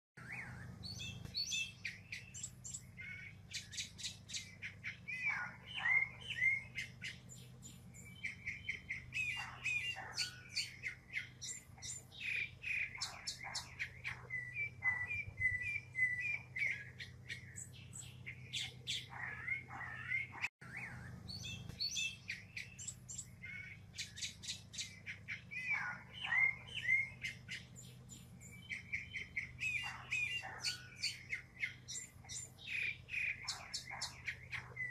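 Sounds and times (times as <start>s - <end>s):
mockingbird singing: 0.2s - 34.9s.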